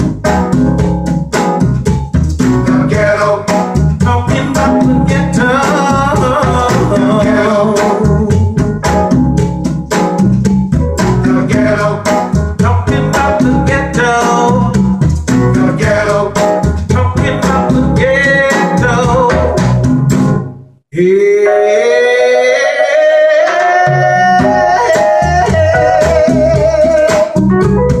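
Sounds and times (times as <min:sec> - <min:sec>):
music with singing guitar and drums: 0:00.0 - 0:20.4, 0:21.8 - 0:28.0
music with sliding held notes: 0:00.0 - 0:20.5, 0:23.9 - 0:28.0.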